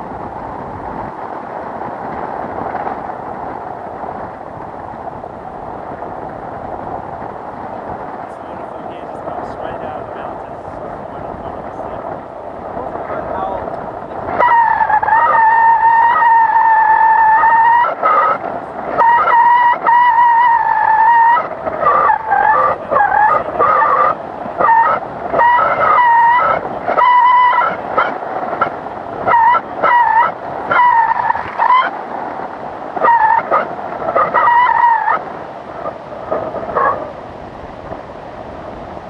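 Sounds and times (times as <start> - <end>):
wind rush: 0.0 - 39.0.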